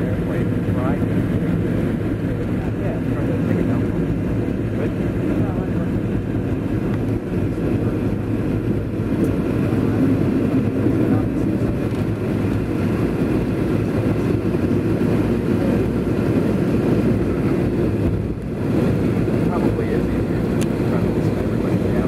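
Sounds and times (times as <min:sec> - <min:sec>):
aircraft rolling on ground: 0:00.0 - 0:22.0
jet engines at taxi power: 0:00.0 - 0:22.0.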